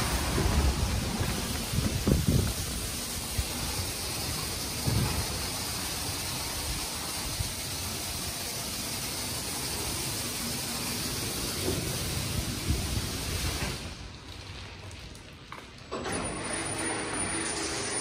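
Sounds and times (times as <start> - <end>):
car wash water spray hissing: 0.0 - 18.0.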